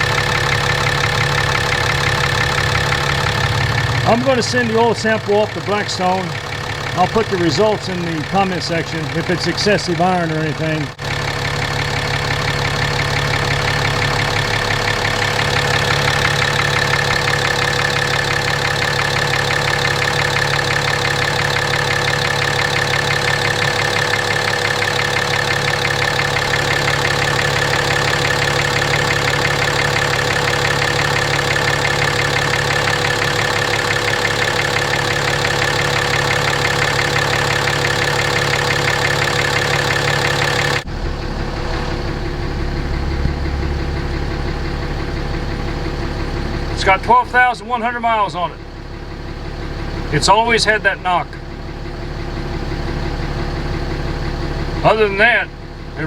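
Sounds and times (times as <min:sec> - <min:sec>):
diesel engine idling with knock: 0:00.0 - 0:56.0.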